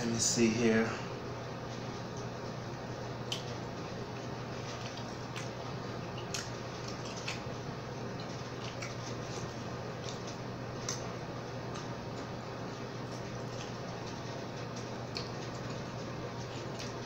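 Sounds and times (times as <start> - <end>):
steady low hum: 0.0 - 17.0
person chewing with wet mouth sounds: 3.2 - 17.0.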